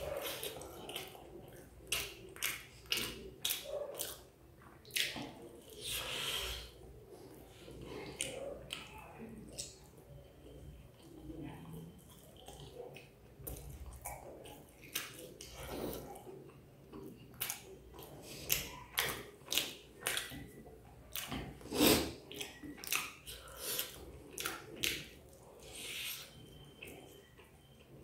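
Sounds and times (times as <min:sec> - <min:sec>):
chewing with wet mouth smacks: 0:00.0 - 0:28.0.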